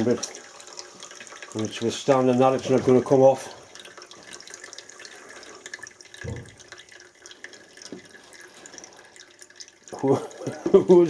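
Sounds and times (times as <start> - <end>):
water hissing and dripping from hose: 0.0 - 11.0.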